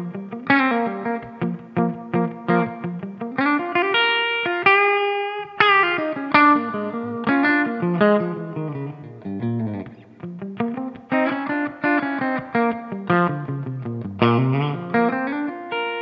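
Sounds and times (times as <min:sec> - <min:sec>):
clean electric guitar melody: 0:00.0 - 0:16.0.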